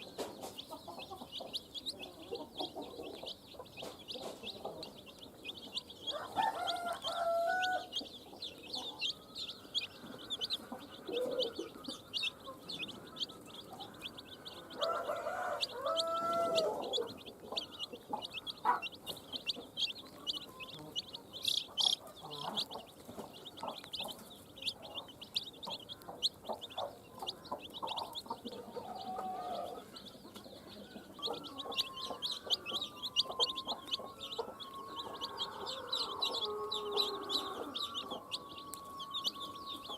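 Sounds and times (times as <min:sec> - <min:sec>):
baby chicks peeping: 0:00.0 - 0:39.9
hen clucking: 0:00.0 - 0:39.9.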